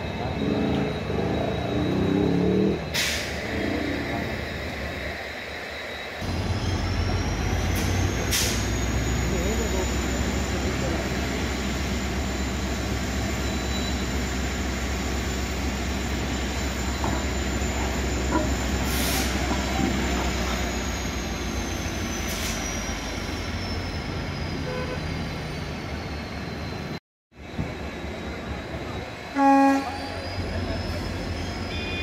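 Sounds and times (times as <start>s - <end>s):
railway coach rumbling on track: 0.0s - 32.0s.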